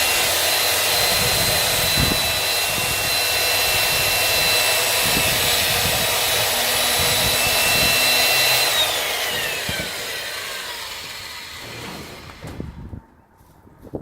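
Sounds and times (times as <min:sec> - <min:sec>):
electric chainsaw whining: 0:00.0 - 0:12.9.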